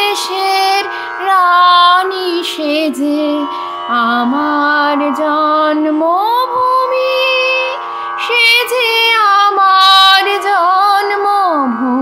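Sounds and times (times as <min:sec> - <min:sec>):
high voice singing: 0:00.0 - 0:12.0
instrumental drone: 0:00.0 - 0:12.0.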